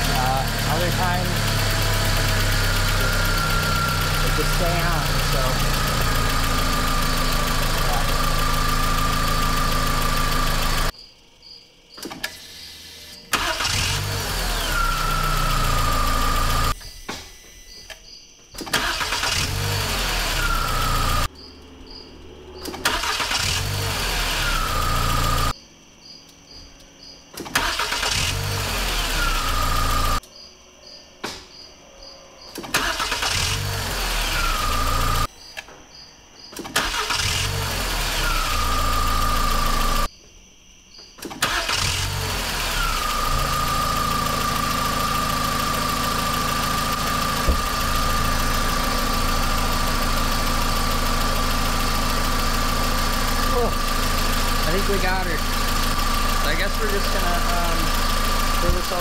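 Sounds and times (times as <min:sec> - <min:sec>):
car engine cranking and running: 0:00.0 - 0:11.0, 0:12.0 - 0:16.8, 0:18.6 - 0:25.6, 0:27.4 - 0:30.2, 0:32.6 - 0:35.3, 0:36.6 - 0:40.1, 0:41.2 - 0:59.0.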